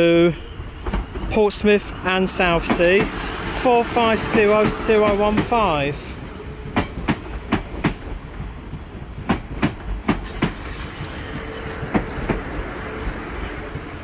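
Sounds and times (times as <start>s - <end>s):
train rumbling past: 0.0s - 14.0s
train wheels clicking over rail joints: 2.3s - 14.0s.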